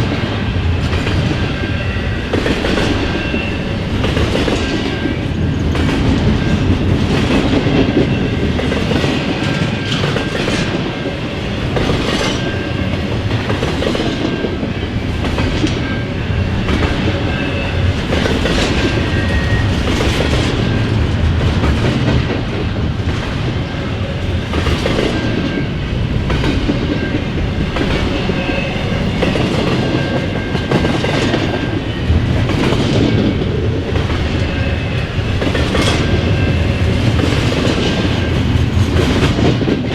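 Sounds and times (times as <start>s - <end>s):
freight train rumbling past: 0.0s - 39.9s
wheels clickety-clack over rail joints: 0.0s - 39.9s.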